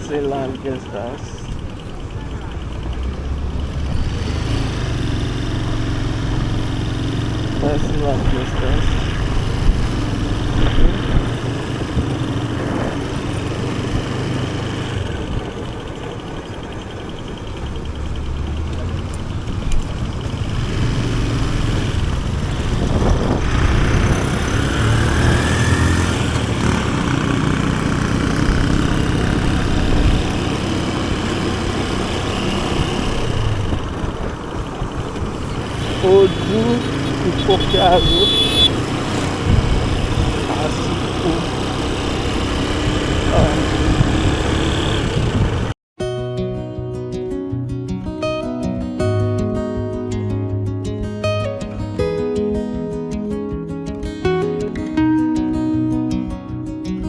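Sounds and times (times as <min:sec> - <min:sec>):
motorcycle engine running: 0:00.0 - 0:45.8.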